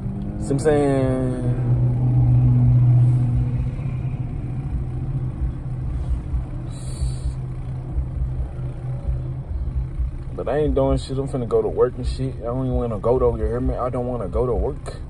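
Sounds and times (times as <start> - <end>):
car engine droning in cabin: 0.0 - 15.0.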